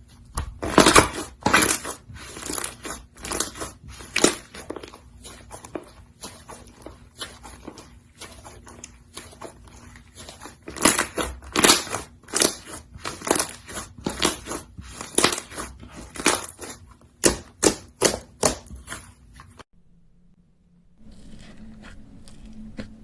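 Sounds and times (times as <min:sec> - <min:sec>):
slime squishing: 0:00.0 - 0:19.6.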